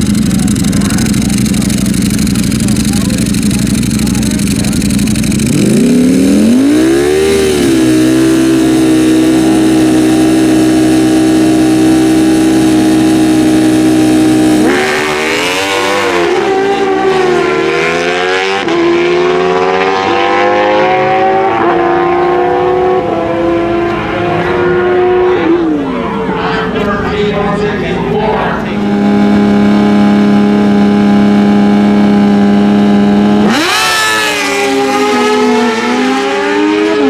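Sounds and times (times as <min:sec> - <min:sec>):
drag motorcycle engines revving: 0:00.0 - 0:37.0.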